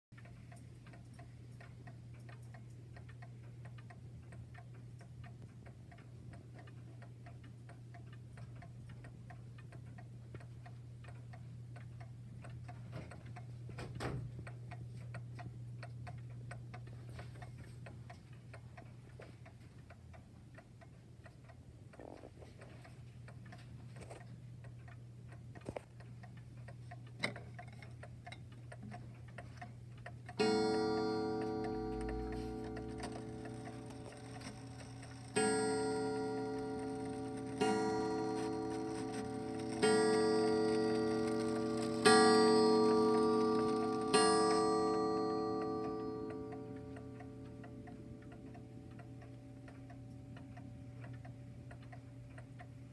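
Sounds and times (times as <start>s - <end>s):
mantel clock ticking: 0.2s - 52.9s.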